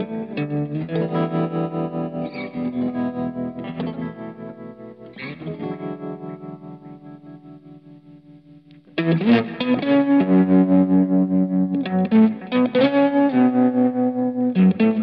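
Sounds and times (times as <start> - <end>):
effects-laden guitar with pitch bends: 0.0 - 15.0.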